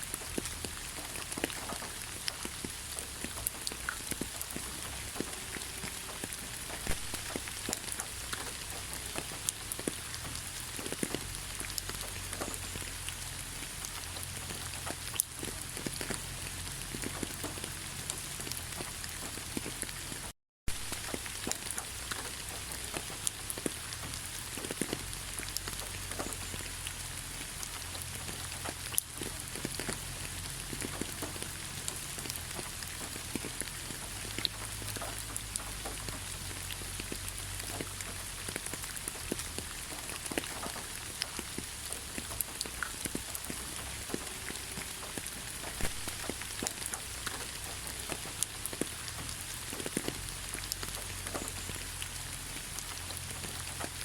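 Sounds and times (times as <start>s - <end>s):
rain falling: 0.0s - 54.0s
raindrops ticking on surface: 0.0s - 54.0s.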